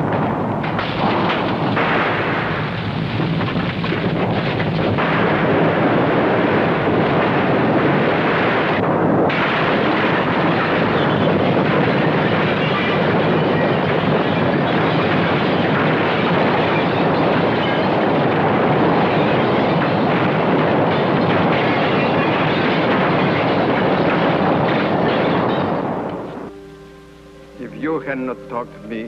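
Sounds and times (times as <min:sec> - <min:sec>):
falling plaster and debris crashing: 0:00.0 - 0:26.3
rumbling roar of building shaking: 0:00.0 - 0:26.5.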